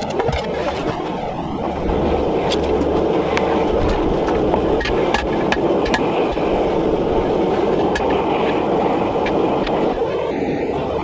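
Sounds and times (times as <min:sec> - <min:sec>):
gas forge roaring: 0:00.0 - 0:11.0.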